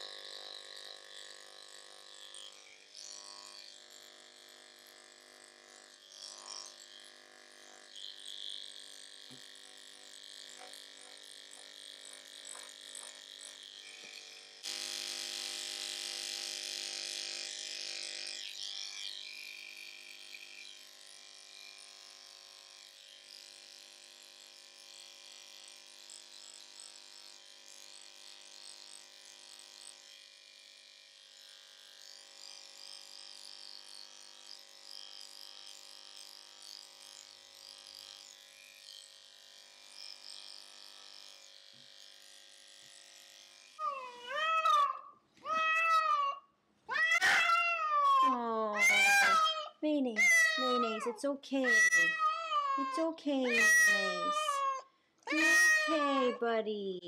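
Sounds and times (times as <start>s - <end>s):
electric pet clipper humming: 0.0s - 57.0s.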